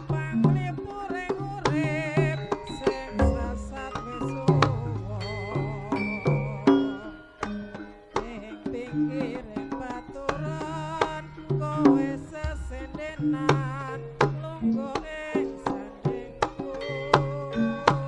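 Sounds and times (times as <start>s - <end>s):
hand drum strokes: 0.0s - 18.0s
ringing pitched tones: 0.0s - 18.0s
wavering high melody: 0.0s - 18.0s.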